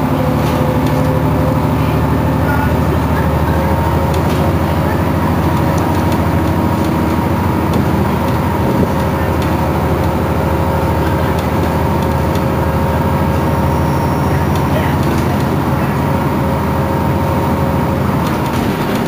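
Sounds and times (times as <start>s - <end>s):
bus engine hum: 0.0s - 19.0s.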